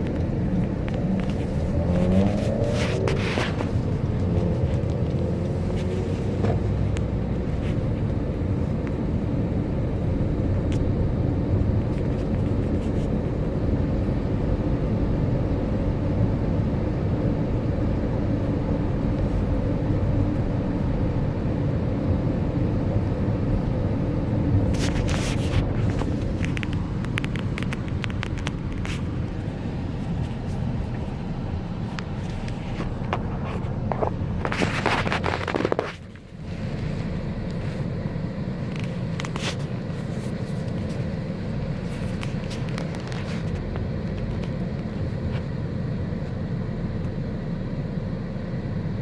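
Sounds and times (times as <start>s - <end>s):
car interior road noise: 0.0s - 49.0s.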